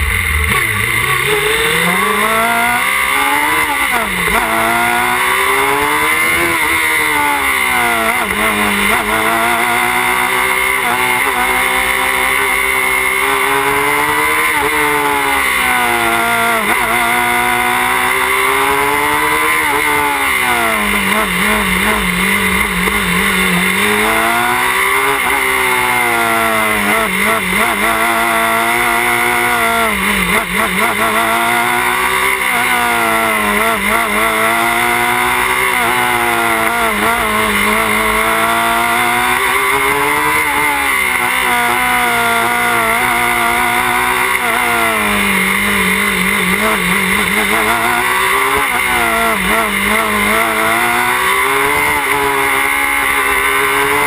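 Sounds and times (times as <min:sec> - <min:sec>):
race car engine rising and falling: 0:00.0 - 0:54.0.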